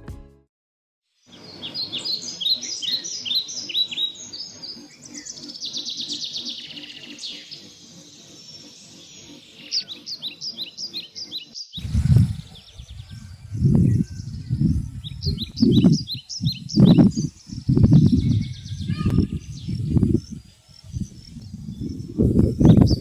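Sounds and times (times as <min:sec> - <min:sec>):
small birds chirping: 0:01.3 - 0:23.0.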